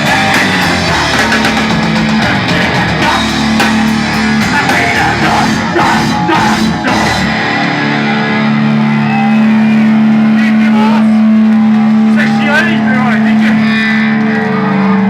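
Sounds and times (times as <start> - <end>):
live heavy rock band: 0.0 - 15.0.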